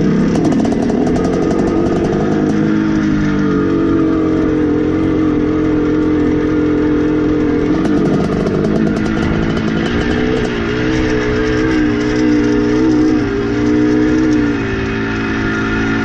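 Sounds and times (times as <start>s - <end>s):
two-stroke motorcycle engine revving: 0.0s - 16.0s.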